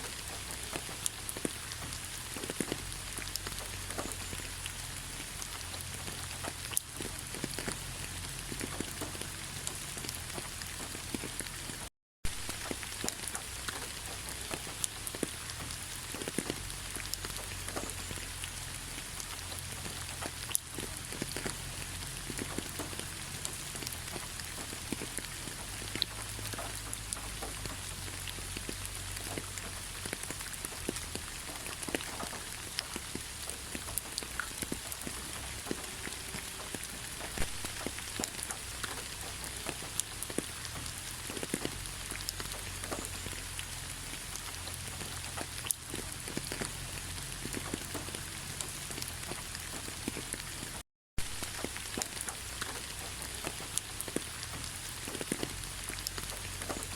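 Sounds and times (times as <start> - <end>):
rain drops ticking on a surface: 0.0 - 56.9.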